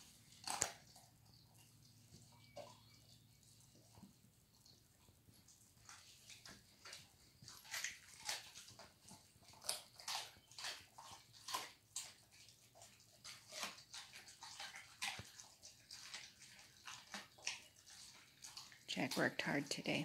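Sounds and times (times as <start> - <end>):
dog chewing wet food: 0.0 - 20.0.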